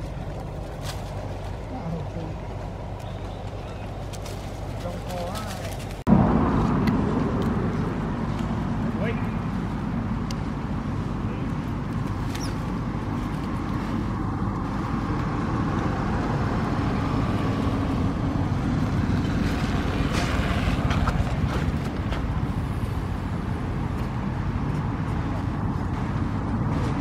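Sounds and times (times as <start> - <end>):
low rumbling background noise: 0.0 - 27.0.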